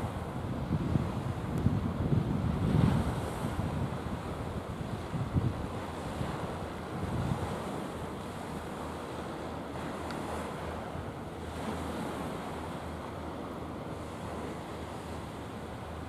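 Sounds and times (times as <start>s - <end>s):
wind buffeting microphone: 0.0s - 15.6s
rush of wind and sea: 0.0s - 16.0s.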